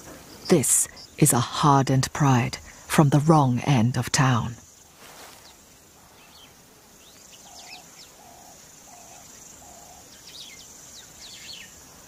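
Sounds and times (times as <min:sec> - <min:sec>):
high insect buzz: 0:00.0 - 0:12.0.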